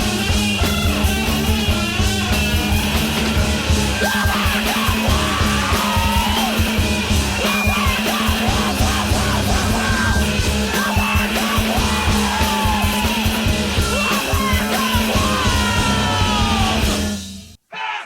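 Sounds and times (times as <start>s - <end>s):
fast dense drums: 0.0s - 17.6s
yelled vocals: 0.0s - 18.0s.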